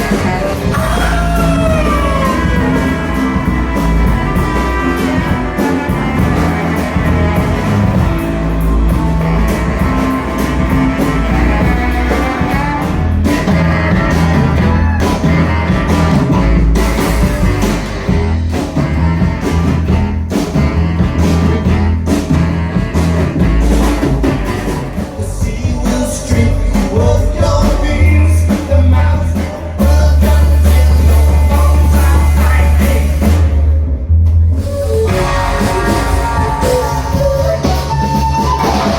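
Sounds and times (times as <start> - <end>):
baritone saxophone: 0.0 - 33.6, 34.5 - 38.9
rock band playing: 0.0 - 38.9.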